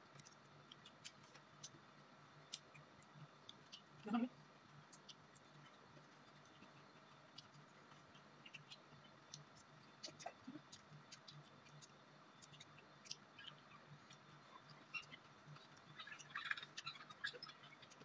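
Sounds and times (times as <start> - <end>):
chewing smacks: 0.0 - 18.0
low steady hum: 0.0 - 18.0.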